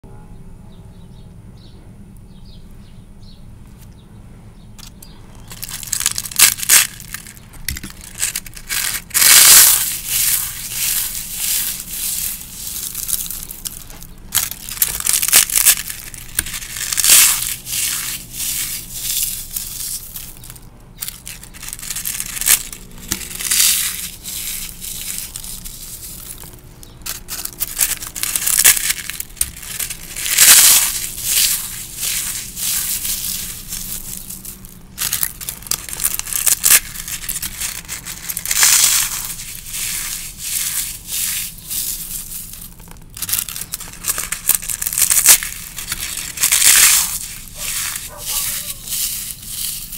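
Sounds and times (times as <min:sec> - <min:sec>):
dried leaves crushed in fingers: 0:04.8 - 0:49.9.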